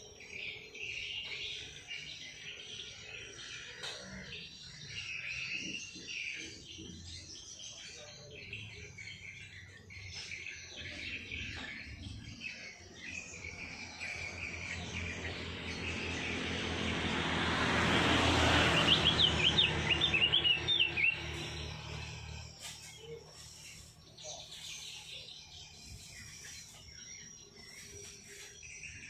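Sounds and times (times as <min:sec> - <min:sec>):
cage birds chirping: 0:00.0 - 0:29.0.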